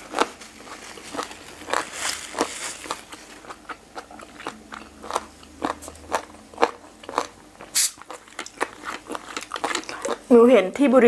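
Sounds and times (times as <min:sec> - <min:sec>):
crunchy chewing: 0:00.0 - 0:10.4.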